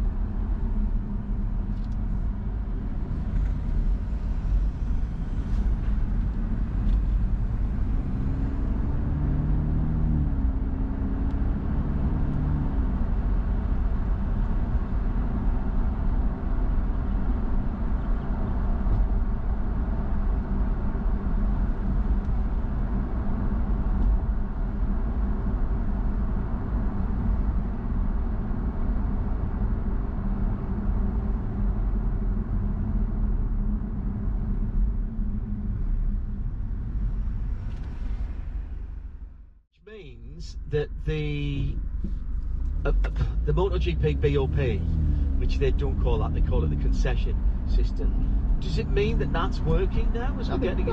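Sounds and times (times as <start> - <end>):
car driving road noise: 0.0 - 50.9.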